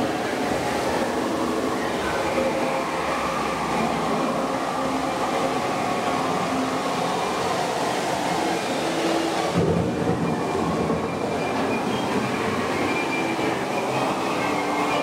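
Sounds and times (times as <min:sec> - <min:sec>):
ride wheels rumbling on rail: 0:00.0 - 0:15.0
thin steady tones: 0:00.0 - 0:15.0.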